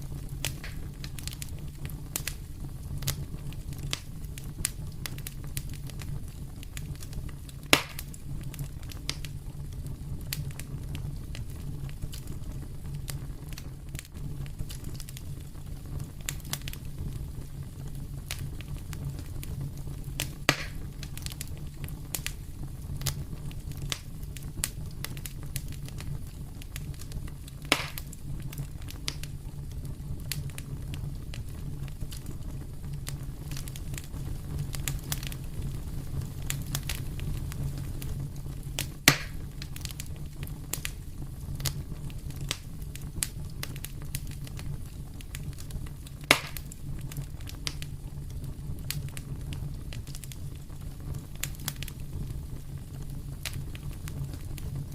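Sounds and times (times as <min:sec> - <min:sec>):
fire pops: 0:00.0 - 0:54.9
wood fire crackling: 0:00.0 - 0:54.9.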